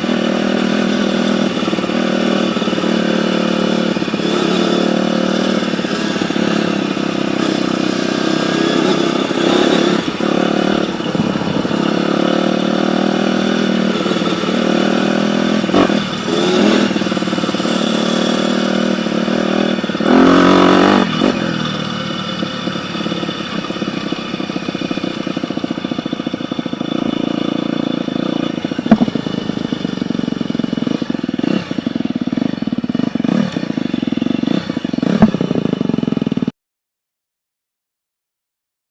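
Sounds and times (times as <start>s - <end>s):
dirt bike engine revving: 0.0s - 36.5s.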